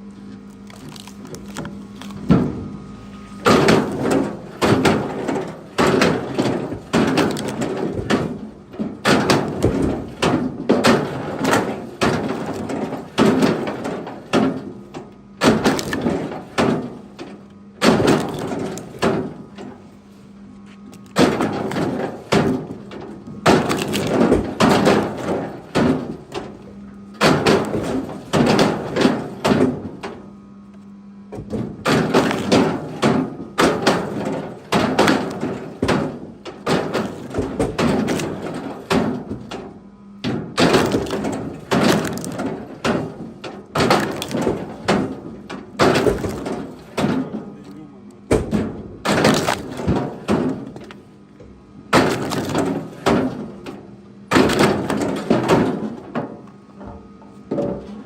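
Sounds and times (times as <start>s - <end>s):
chopped wood clattering onto pile: 0.6s - 2.7s, 3.4s - 19.9s, 20.9s - 30.2s, 31.3s - 51.0s, 51.9s - 58.0s.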